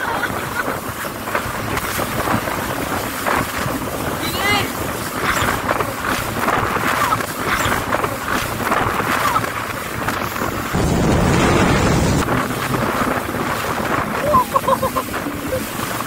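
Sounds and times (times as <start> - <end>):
jet ski engine: 0.0 - 16.0
water rushing and spray: 0.0 - 16.0
wind buffeting microphone: 0.0 - 16.0.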